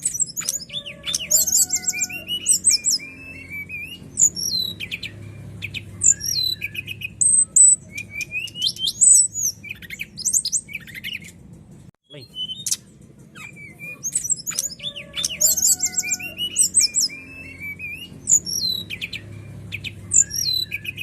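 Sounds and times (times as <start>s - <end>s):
bird singing whistles and trills: 0.0s - 11.4s, 12.1s - 21.0s.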